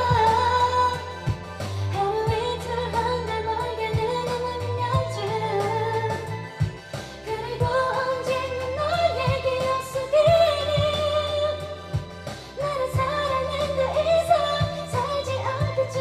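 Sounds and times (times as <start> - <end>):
karaoke backing track: 0.0 - 16.0
woman singing into a microphone: 0.0 - 16.0.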